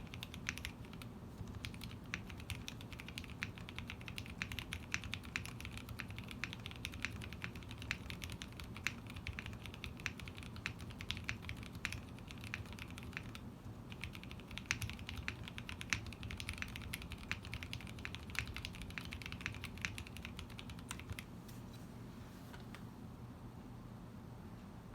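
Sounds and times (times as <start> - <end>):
fast typing on mechanical keyboard: 0.0 - 21.3.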